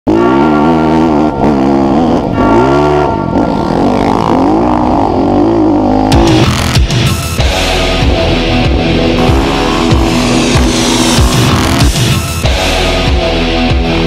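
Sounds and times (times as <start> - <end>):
dirt bike engines revving: 0.1 - 13.2
music playing: 0.4 - 14.0.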